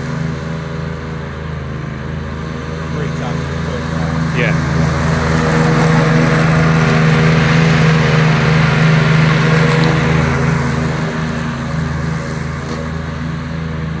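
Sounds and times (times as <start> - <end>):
ride-on lawn mower engine: 0.0 - 14.0.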